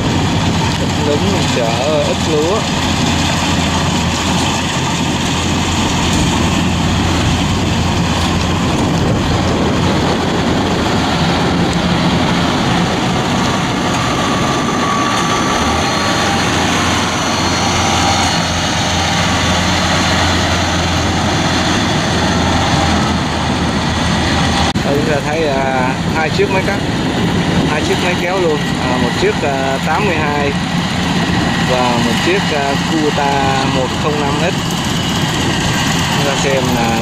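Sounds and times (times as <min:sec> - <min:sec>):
combine harvester engines droning: 0:00.0 - 0:37.0.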